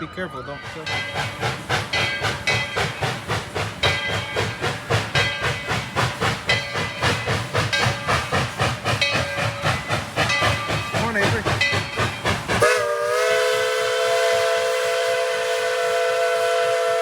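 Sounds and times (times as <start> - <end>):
steam locomotive chuffing: 0.2 - 17.0
steam hissing: 0.6 - 17.0.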